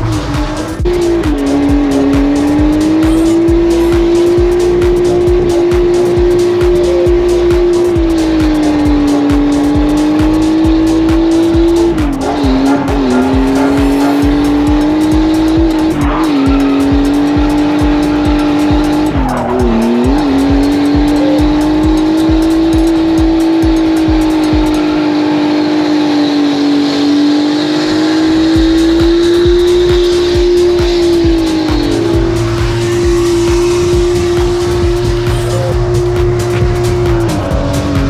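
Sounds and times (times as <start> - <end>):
car engine at high revs: 0.0 - 38.0.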